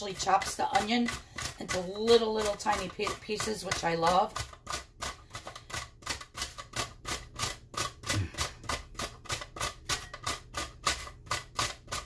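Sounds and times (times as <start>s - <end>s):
onion sliced on mandoline: 0.0s - 12.0s.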